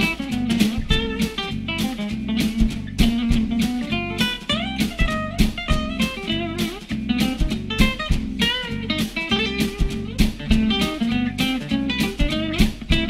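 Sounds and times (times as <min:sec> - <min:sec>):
drums steady beat: 0:00.0 - 0:13.0
plucked guitar: 0:00.0 - 0:13.0.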